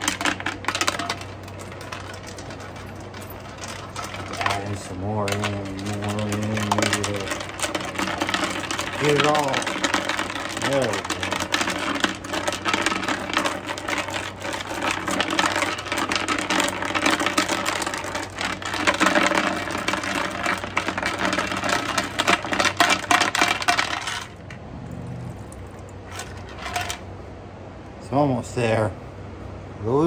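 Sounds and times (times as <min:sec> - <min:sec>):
metal screws rattling in container: 0:00.0 - 0:24.6, 0:26.0 - 0:27.0.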